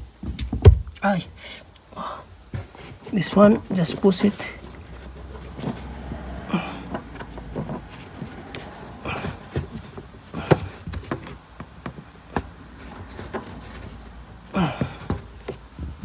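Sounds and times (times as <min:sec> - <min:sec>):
trim panel rustling and knocks: 0:02.4 - 0:16.0.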